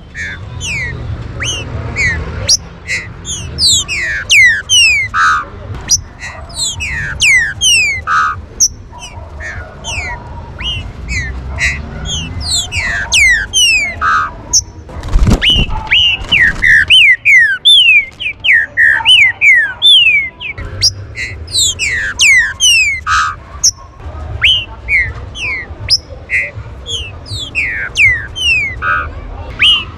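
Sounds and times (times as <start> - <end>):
bird singing whistled notes: 0.0 - 14.7, 15.3 - 23.8, 24.4 - 28.9, 29.6 - 29.9.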